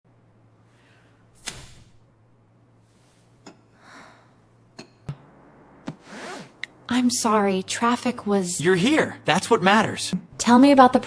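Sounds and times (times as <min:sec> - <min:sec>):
low steady hum: 0:00.1 - 0:11.0.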